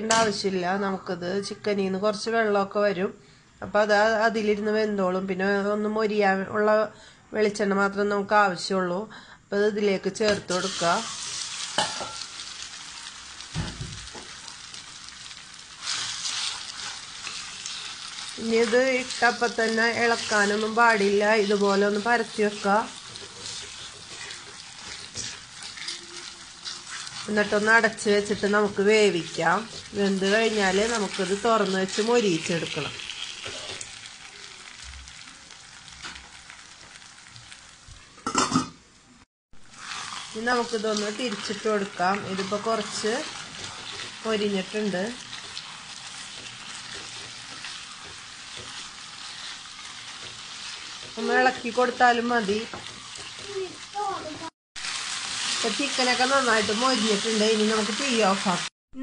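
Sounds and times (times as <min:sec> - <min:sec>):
chicken sizzling in oil: 0:10.3 - 0:38.4, 0:39.6 - 0:58.7.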